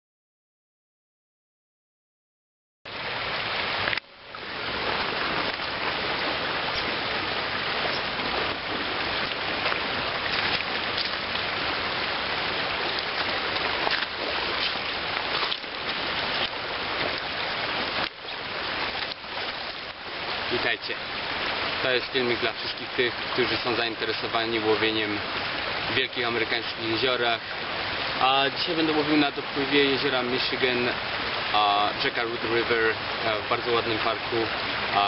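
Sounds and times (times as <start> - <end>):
river water rushing over gravel: 2.9 - 35.0.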